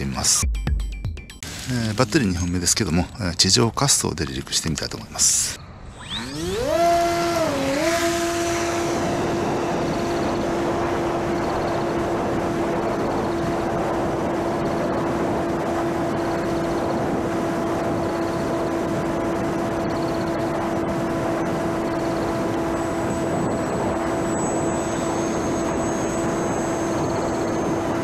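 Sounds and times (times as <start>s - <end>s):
electric motor and propeller whine: 1.4s - 3.2s, 4.2s - 28.0s.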